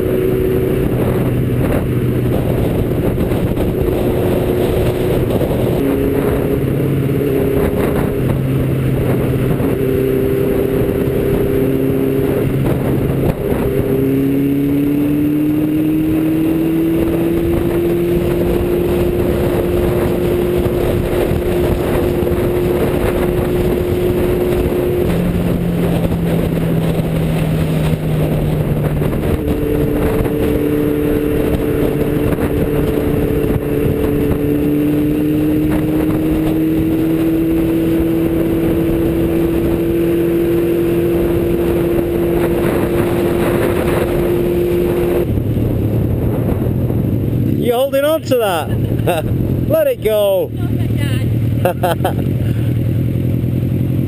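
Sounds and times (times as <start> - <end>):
motorcycle engine droning: 0.0 - 54.0
wind rush on microphone: 0.0 - 54.0.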